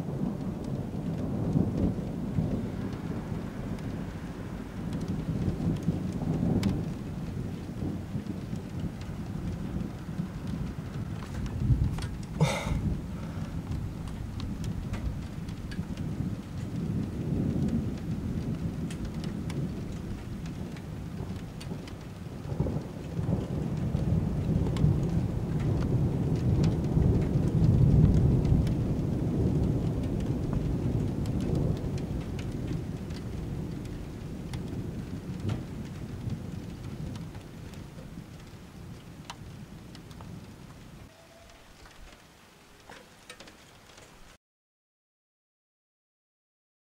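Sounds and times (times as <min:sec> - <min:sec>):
rolling thunder: 0:00.0 - 0:41.8
steady rain: 0:00.0 - 0:44.4.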